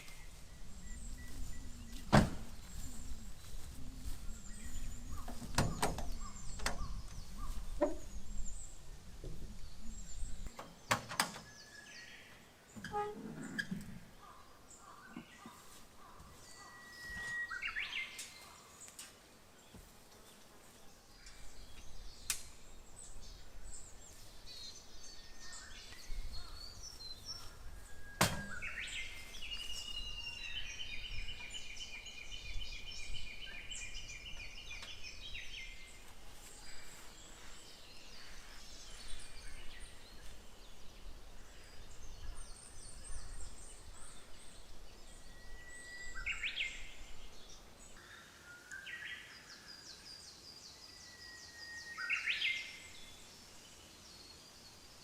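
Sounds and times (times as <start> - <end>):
birds calling and singing: 0.0 - 55.0.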